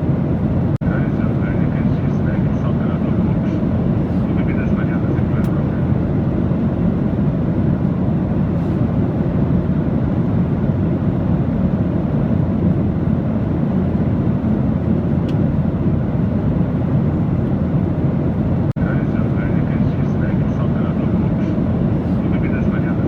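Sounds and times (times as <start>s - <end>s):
aircraft rumble: 0.0s - 23.0s.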